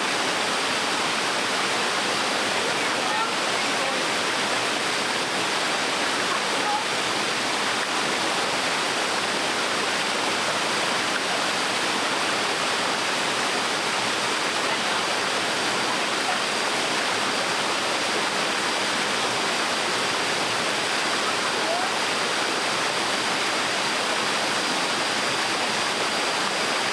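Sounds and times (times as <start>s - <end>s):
small waterfall pouring: 0.0s - 26.9s.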